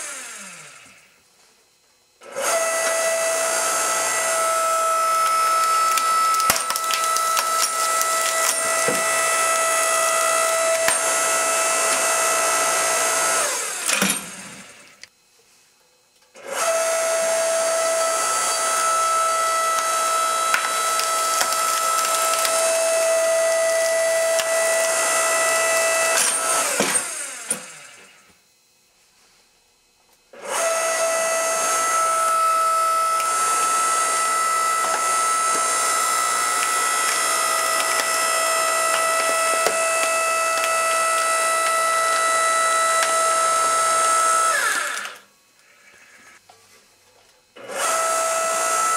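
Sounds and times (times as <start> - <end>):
log splitter motor whining: 0.0 - 1.2, 2.2 - 15.2, 16.3 - 28.8, 30.3 - 46.4, 47.6 - 48.9.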